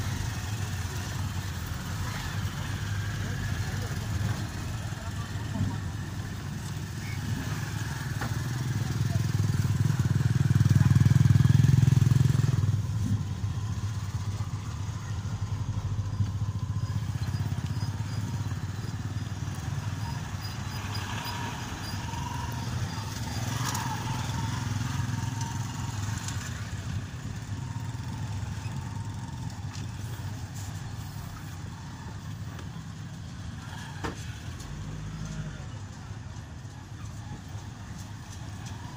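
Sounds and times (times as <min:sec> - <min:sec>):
motorcycle and vehicle engines: 0:00.0 - 0:38.9.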